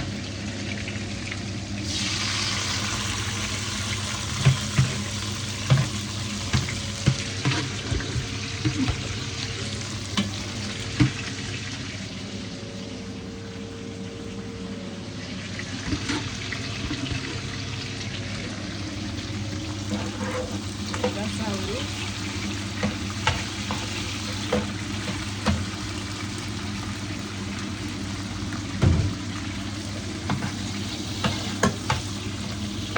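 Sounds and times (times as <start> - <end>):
vegetables sizzling in hot oil: 0.0 - 12.4, 15.6 - 32.9.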